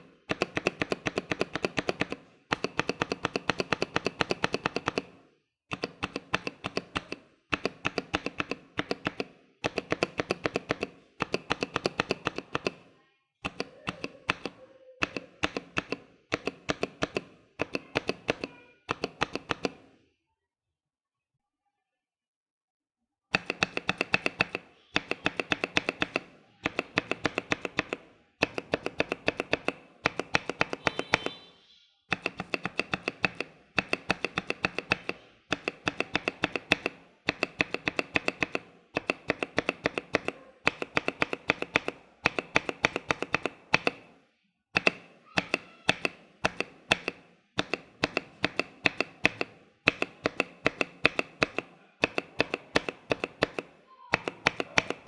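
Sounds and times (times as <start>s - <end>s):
keyboard spacebar clacking: 0.0s - 5.1s, 5.7s - 12.8s, 13.4s - 19.8s, 23.3s - 31.4s, 32.1s - 44.1s, 44.8s - 55.0s.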